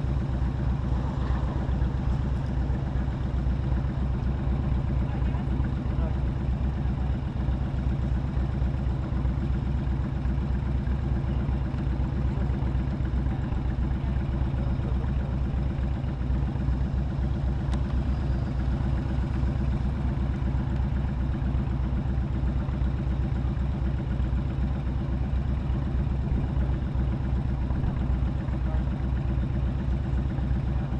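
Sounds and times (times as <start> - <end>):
motorcycle engine idling low: 0.0 - 30.9.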